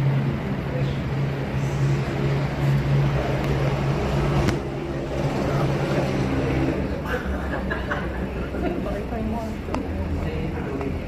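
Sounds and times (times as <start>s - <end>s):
constant background noise: 0.0s - 11.0s
steady low hum: 0.0s - 11.0s.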